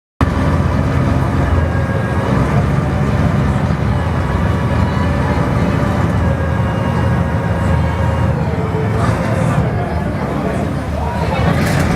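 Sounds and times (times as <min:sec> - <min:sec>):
ferry engine droning: 0:00.2 - 0:11.9.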